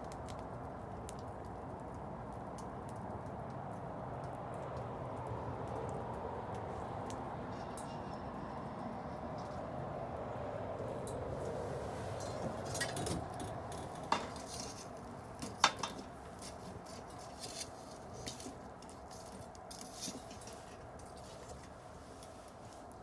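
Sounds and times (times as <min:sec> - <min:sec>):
bonfire burning and crackling: 0:00.0 - 0:23.0.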